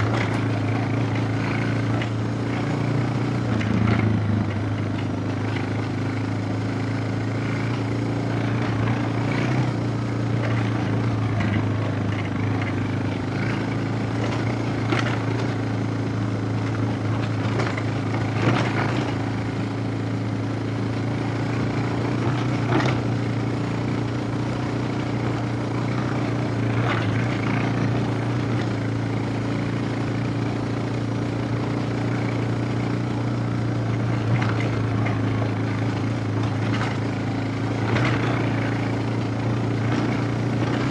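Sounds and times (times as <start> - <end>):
single-cylinder engine running: 0.0 - 40.9.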